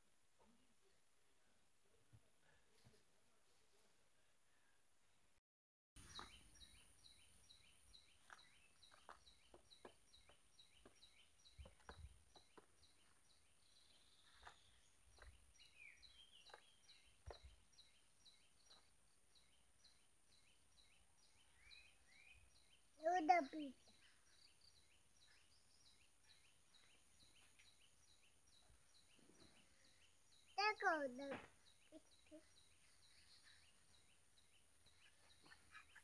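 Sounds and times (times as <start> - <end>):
bird chirping: 6.0 - 36.0.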